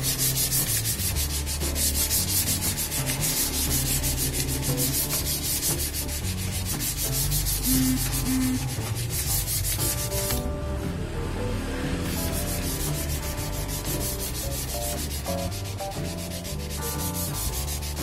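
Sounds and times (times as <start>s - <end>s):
sandpaper rubbing on bumper: 0.0s - 10.4s, 12.0s - 18.0s.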